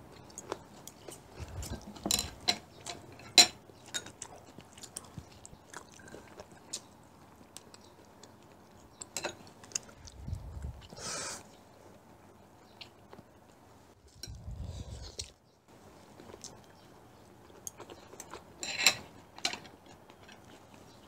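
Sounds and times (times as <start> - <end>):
chewing: 0.0 - 11.0, 12.6 - 21.0.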